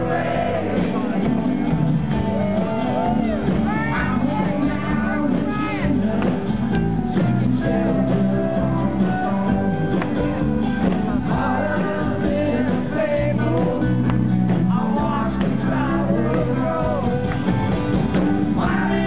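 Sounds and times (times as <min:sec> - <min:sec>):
man singing lead vocal: 0:00.0 - 0:01.8, 0:03.6 - 0:10.2, 0:10.9 - 0:17.5, 0:18.5 - 0:19.0
live rock band playing: 0:00.0 - 0:19.0.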